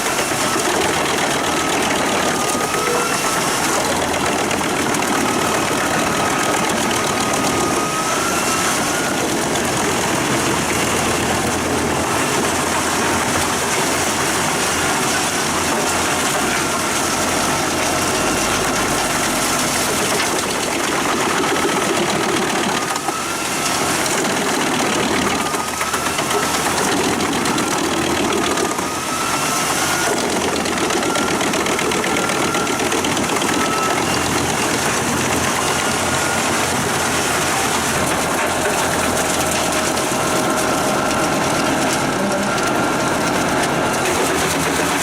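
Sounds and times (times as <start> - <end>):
tractor engine: 0.0 - 45.0
wood chipper running: 0.0 - 45.0.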